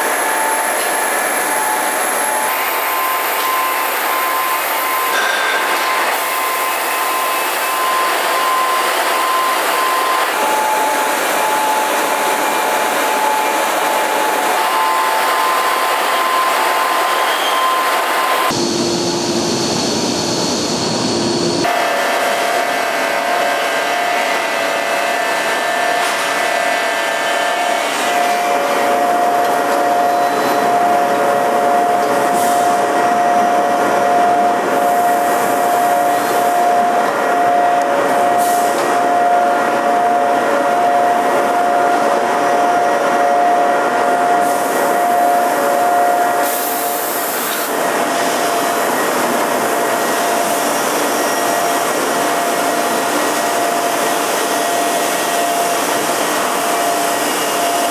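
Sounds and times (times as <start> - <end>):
band saw machine whine: 0.0 - 57.9
constant machine hum: 0.0 - 57.9.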